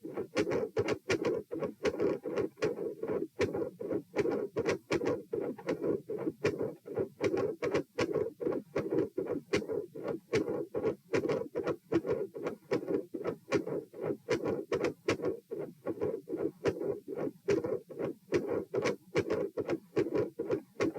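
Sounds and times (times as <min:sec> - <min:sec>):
heartbeat through stethoscope: 0:00.0 - 0:20.9.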